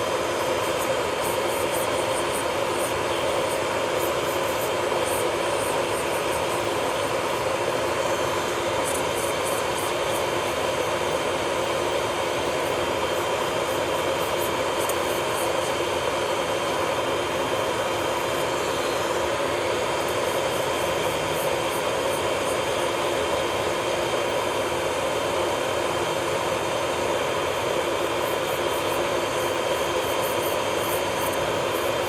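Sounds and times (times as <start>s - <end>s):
electric nail drill whirring: 0.0s - 32.0s.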